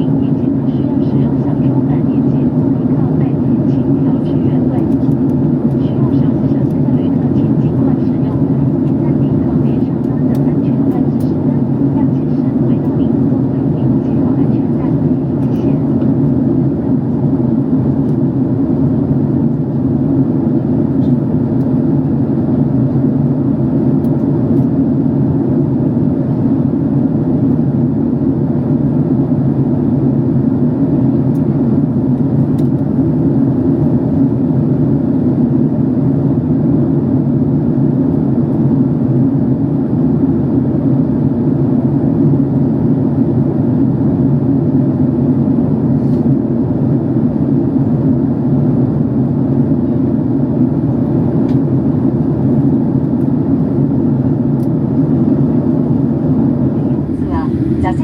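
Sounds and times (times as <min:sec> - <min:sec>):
airliner engine drone in cabin: 0:00.0 - 0:58.0.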